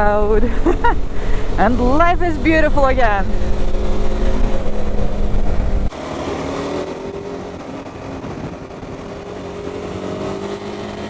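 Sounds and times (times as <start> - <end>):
wind rumble: 0.0 - 6.0, 6.6 - 11.0
motorcycle engine running: 0.0 - 11.0.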